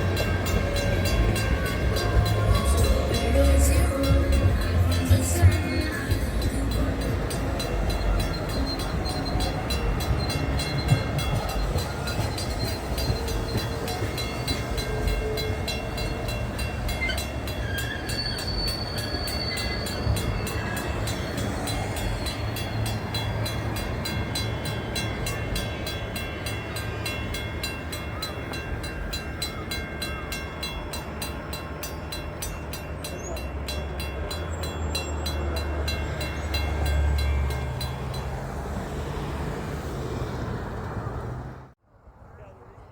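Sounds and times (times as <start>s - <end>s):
train wheels clattering on rails: 0.0s - 41.0s.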